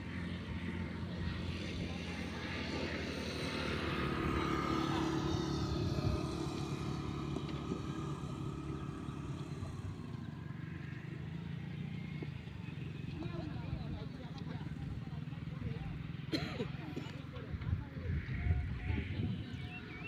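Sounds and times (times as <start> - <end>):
passing vehicle engine: 0.0 - 16.3.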